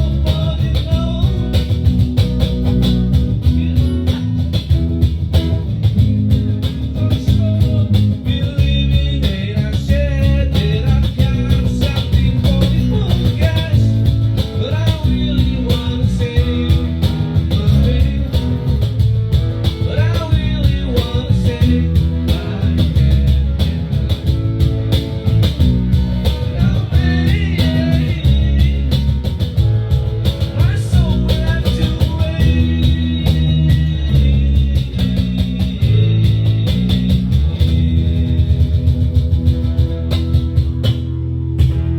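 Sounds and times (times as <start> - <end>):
bass and drums: 0.0 - 41.9
lead guitar with bends: 0.0 - 41.9.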